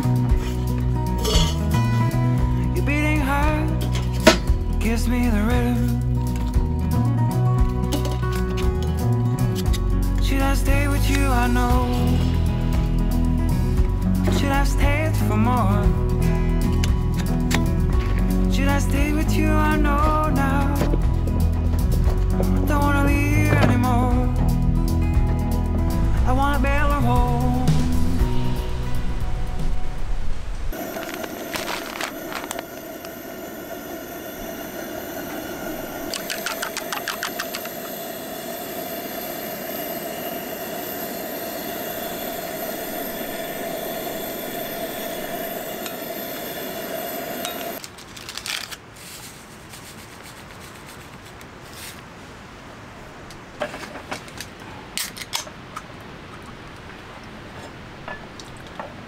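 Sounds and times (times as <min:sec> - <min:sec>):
camp stove hissing: 0:00.0 - 0:47.8.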